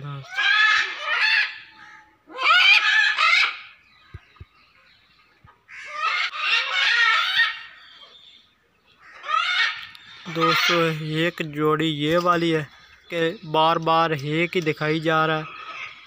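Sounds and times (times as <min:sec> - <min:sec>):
macaws squawking: 0:00.0 - 0:04.4, 0:05.5 - 0:16.0.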